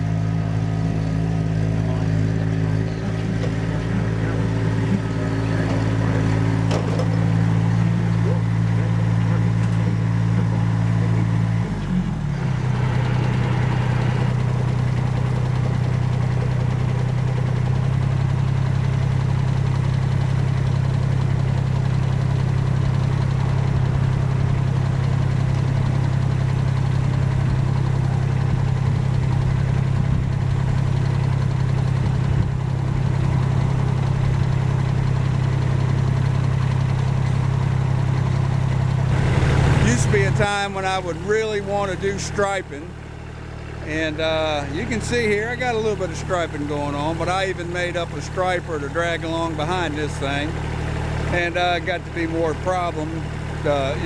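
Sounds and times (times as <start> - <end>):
tractor diesel engine mowing: 0.0 - 54.0.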